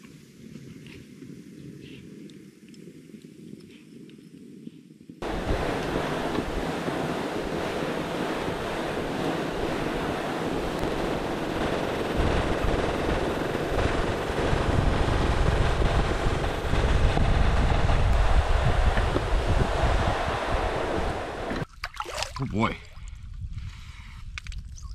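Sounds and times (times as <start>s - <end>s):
bike tires rushing over snow: 0.0s - 21.6s
wind buffeting microphone: 0.1s - 24.9s.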